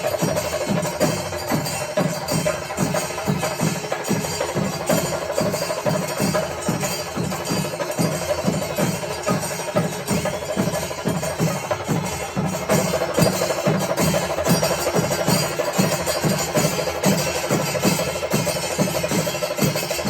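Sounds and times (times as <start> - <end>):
drums beating steady rhythm: 0.0 - 20.0
metallic cymbals clashing: 0.0 - 20.0.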